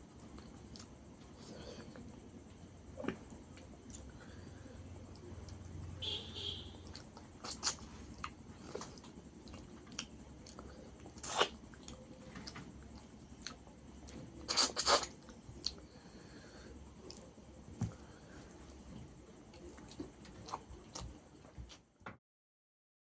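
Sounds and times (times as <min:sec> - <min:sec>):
person chewing food: 0:00.1 - 0:05.7, 0:06.4 - 0:21.8.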